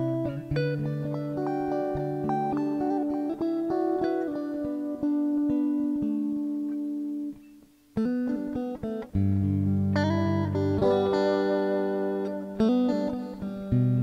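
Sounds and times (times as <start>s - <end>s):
plucked guitar music: 0.0s - 14.0s.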